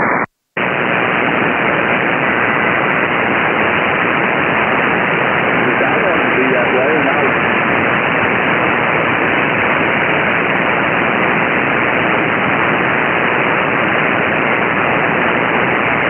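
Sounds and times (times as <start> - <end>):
radio static and hiss: 0.0 - 16.0.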